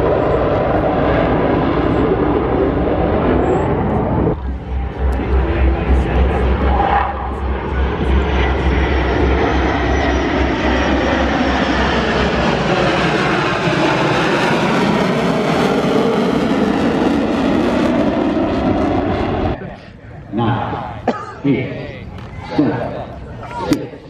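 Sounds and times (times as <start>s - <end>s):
airplane flying past: 0.0s - 24.0s.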